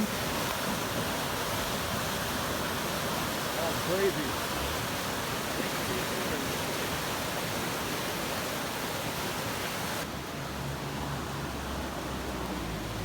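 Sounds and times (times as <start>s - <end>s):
water and debris rushing: 0.0s - 13.0s.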